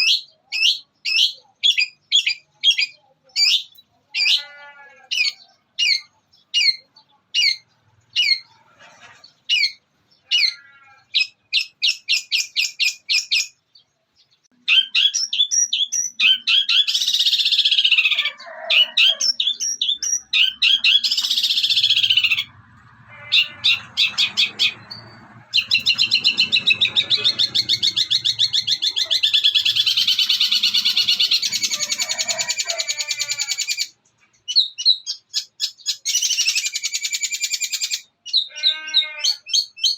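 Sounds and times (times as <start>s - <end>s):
shrike singing mimicked calls: 0.0s - 8.6s, 14.5s - 39.9s.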